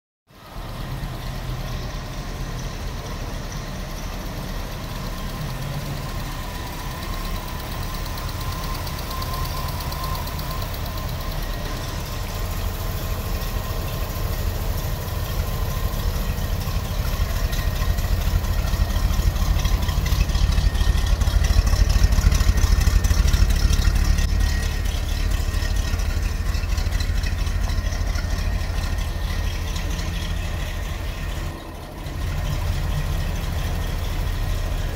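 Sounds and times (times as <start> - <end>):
car engine idling: 0.3 - 34.9.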